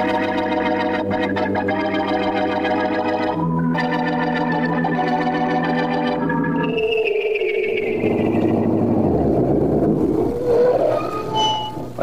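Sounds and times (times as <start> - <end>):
held organ chords: 0.0 - 12.0.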